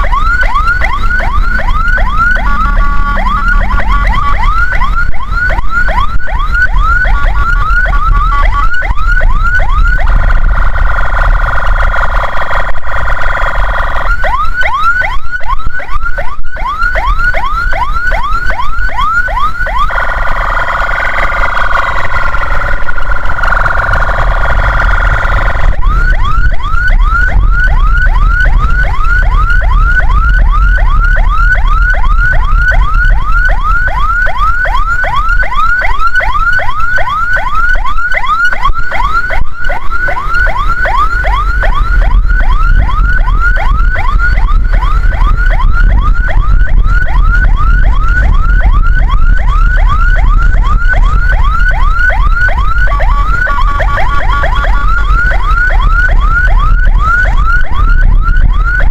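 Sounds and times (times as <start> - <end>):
low vehicle rumble: 0.0 - 58.9
siren on fast yelp: 0.0 - 58.9
steady siren tone: 0.0 - 58.9.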